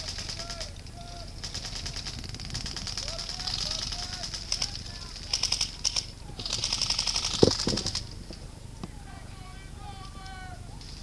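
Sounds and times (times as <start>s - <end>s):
airsoft guns firing bursts: 0.0s - 11.0s.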